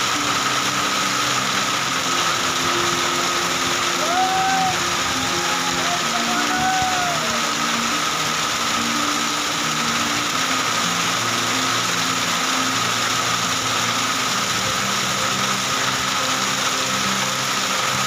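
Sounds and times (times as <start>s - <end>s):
heavy rain and hail: 0.0s - 18.0s.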